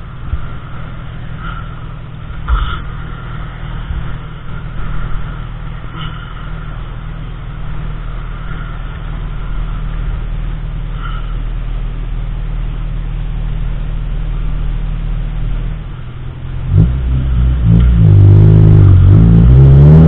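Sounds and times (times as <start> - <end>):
car interior rumble: 0.0 - 20.0.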